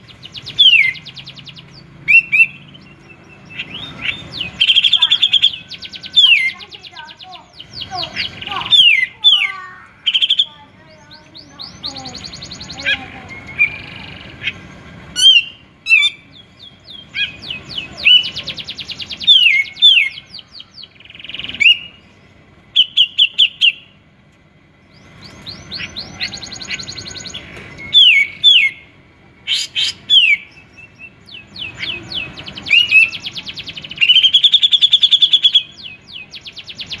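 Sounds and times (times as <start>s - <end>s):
bird singing with trills: 0.0s - 24.0s, 24.7s - 37.0s.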